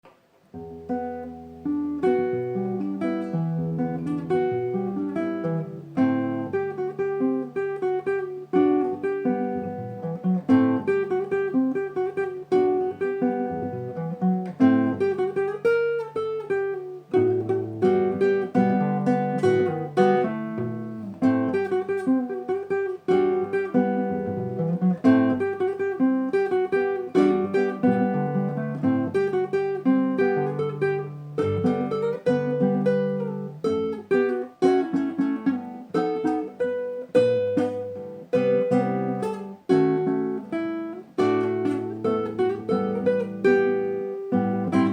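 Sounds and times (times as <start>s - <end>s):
acoustic guitar instrumental: 0.0s - 44.9s.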